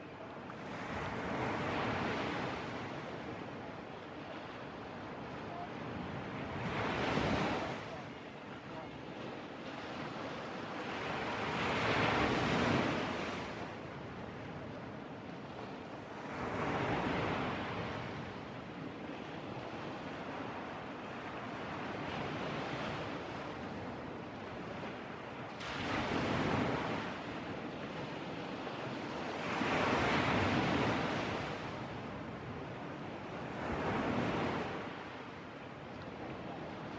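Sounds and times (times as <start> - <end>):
sea waves breaking on beach: 0.0 - 36.9.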